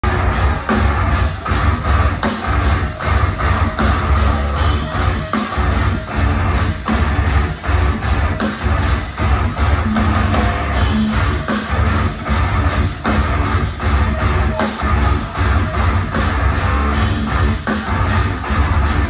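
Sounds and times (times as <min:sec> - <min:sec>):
metal band playing live: 0:00.0 - 0:19.0.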